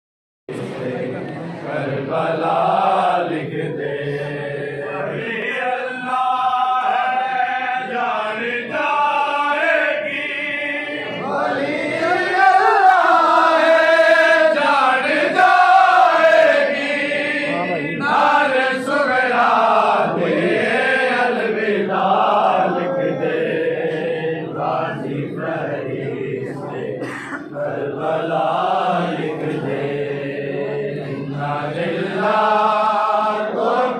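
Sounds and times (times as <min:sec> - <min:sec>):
men chanting a lament: 0:00.5 - 0:33.9.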